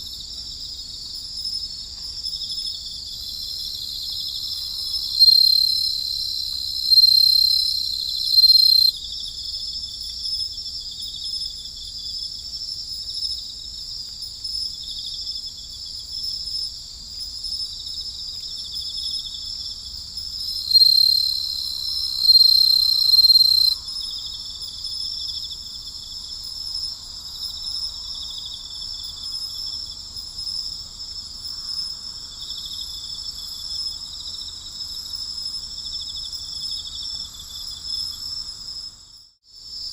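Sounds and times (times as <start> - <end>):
crickets chirring: 0.2 - 39.9
close insect trill: 1.4 - 39.9.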